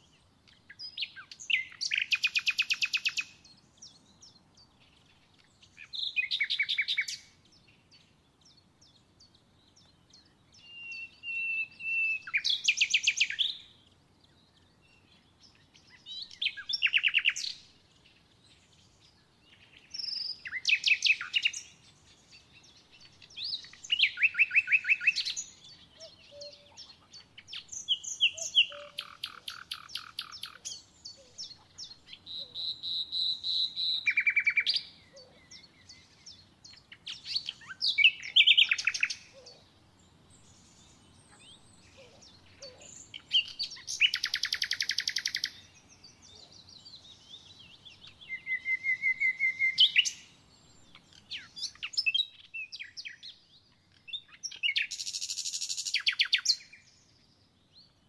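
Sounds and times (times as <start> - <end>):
songbird trilling and chirping: 0.0 - 58.0.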